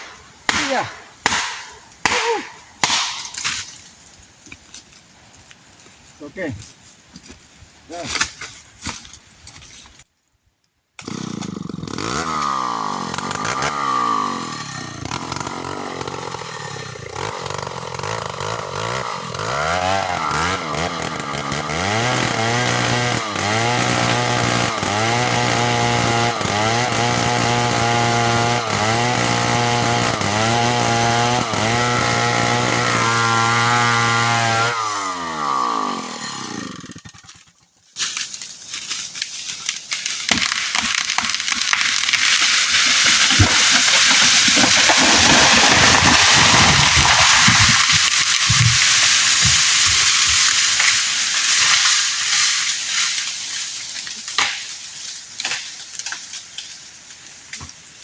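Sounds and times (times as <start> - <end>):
chainsaw cutting wood: 0.0 - 3.9, 11.0 - 56.8.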